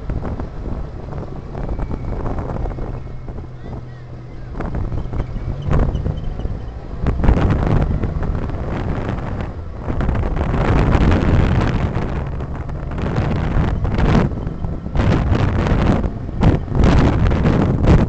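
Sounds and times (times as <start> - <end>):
car driving rumble: 0.0 - 18.0
wind buffeting microphone: 0.0 - 18.0.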